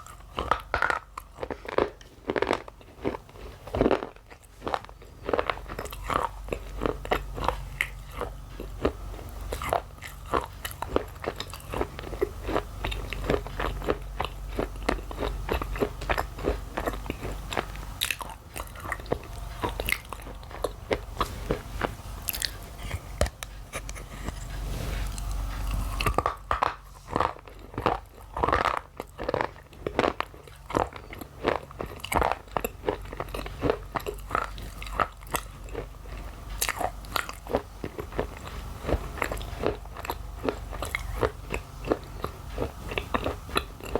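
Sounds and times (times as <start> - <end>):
crunchy chewing: 0.0 - 43.9.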